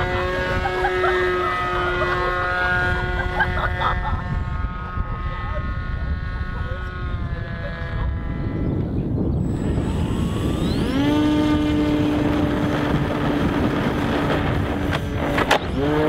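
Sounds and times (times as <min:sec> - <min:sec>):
model plane motor whine: 0:00.0 - 0:16.0
wind rumble on microphone: 0:00.0 - 0:16.0.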